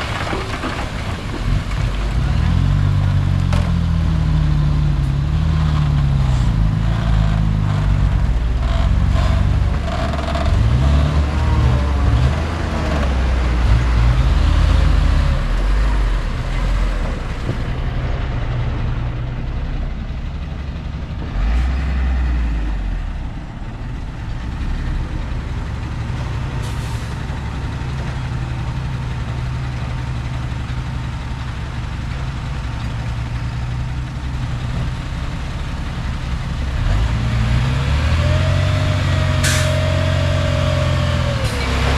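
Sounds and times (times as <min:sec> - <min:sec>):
heavy diesel machinery working: 0:00.0 - 0:41.9.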